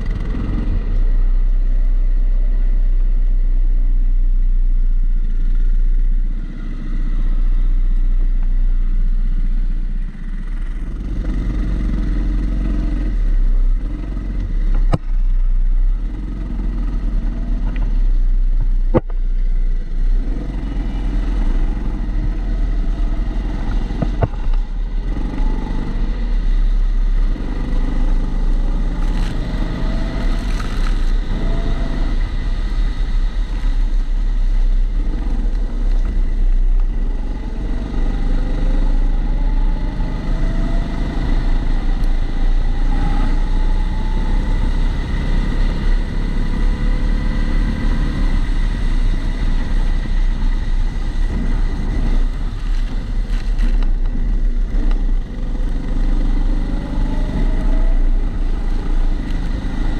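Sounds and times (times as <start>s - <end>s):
muffled go-kart engine: 0.0s - 59.9s.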